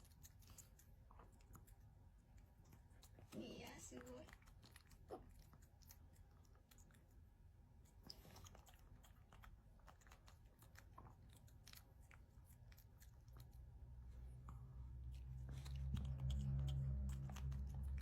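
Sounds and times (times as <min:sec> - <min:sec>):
dog chewing food: 0:00.0 - 0:13.7, 0:14.3 - 0:18.0.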